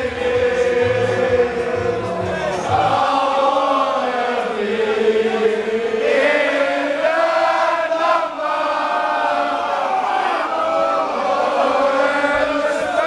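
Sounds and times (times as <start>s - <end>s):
crowd singing a chant: 0.0s - 13.0s.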